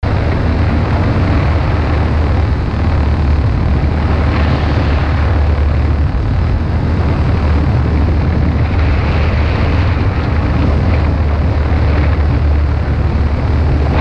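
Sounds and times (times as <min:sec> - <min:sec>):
rushing wind noise: 0:00.0 - 0:14.0
small aircraft motor running: 0:00.0 - 0:14.0.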